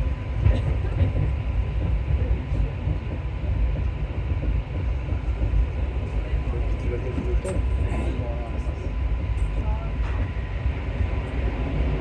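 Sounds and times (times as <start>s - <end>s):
metro train rumbling in tunnel: 0.0s - 12.0s.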